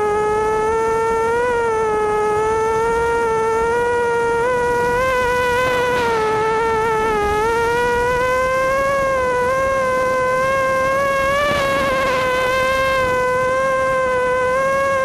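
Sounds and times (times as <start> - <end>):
quadcopter motors buzzing whine: 0.0 - 15.0.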